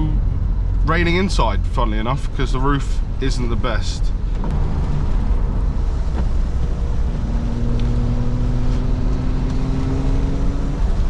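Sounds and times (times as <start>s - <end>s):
car engine running: 0.0s - 11.0s
road noise rumble: 0.0s - 11.0s.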